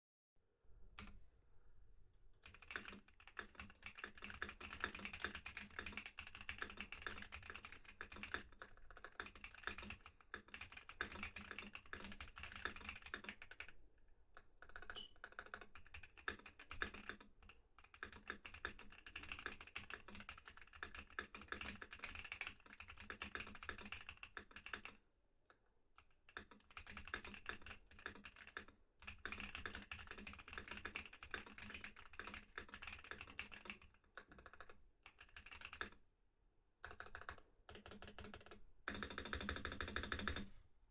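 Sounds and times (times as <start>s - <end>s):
mechanical keyboard typing: 2.4s - 13.8s, 14.4s - 25.0s, 26.0s - 36.0s, 36.8s - 40.5s.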